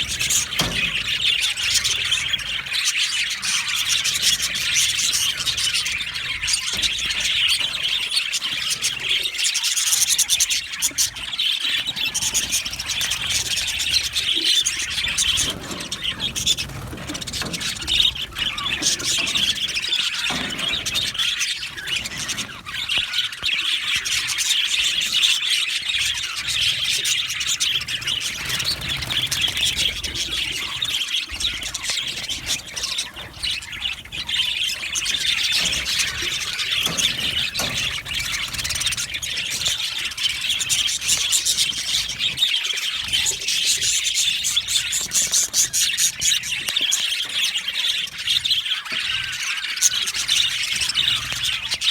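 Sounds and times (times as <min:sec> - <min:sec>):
budgerigars chattering and chirping: 0:00.0 - 0:51.9.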